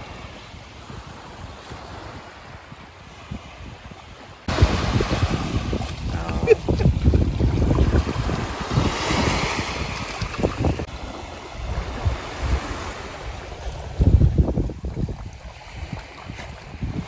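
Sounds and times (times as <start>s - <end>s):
gusty wind on microphone: 0.0s - 17.0s
small surf washing on beach: 0.0s - 17.0s.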